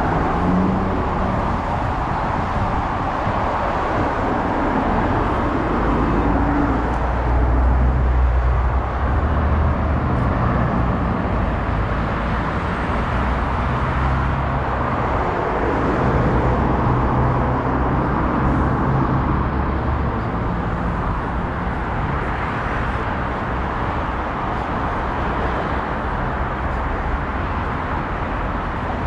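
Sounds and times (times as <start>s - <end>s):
highway traffic rushing: 0.0s - 29.0s.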